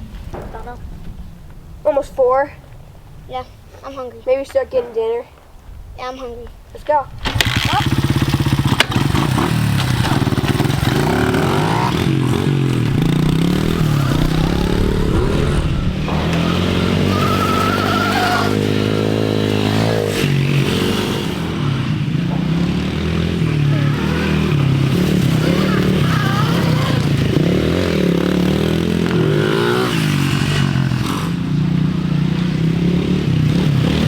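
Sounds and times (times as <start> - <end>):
dirt bike engines: 0.0 - 34.0.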